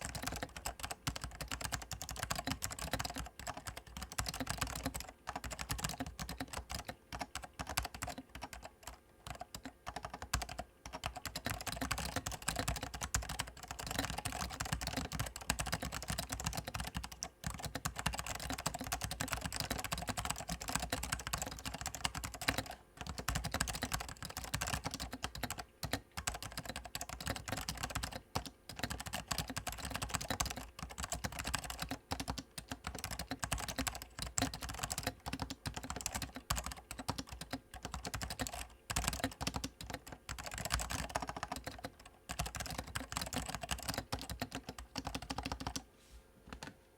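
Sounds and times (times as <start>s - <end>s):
fast keyboard typing: 0.0s - 45.8s.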